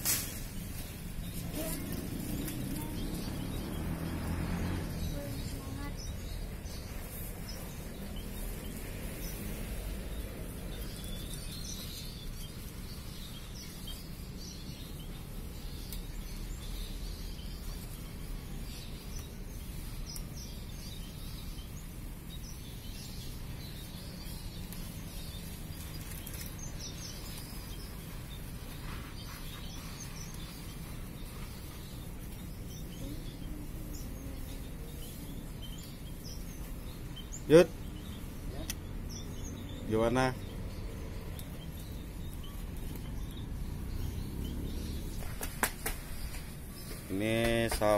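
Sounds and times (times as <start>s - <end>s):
finches chirping: 0.6s - 47.9s.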